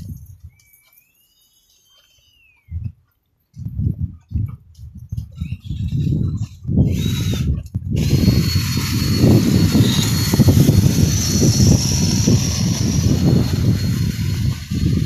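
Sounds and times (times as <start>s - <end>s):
wind buffeting microphone: 0.0s - 0.6s, 2.6s - 15.0s.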